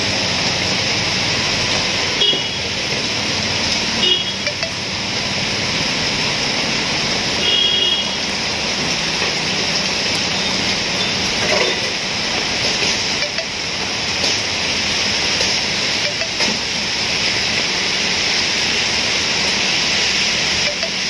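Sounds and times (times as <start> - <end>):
car passing on wet street: 0.0 - 21.0
heavy rain pouring: 0.0 - 21.0.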